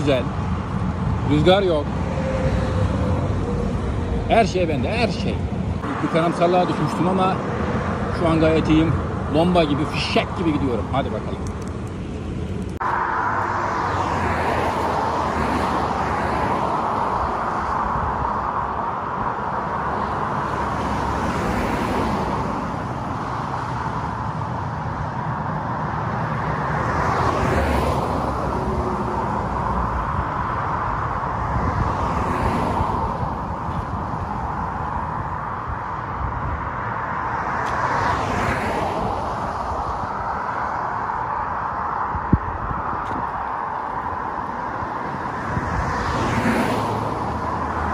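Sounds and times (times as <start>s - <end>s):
road noise rushing: 0.0s - 47.9s
vehicles passing: 0.0s - 47.9s.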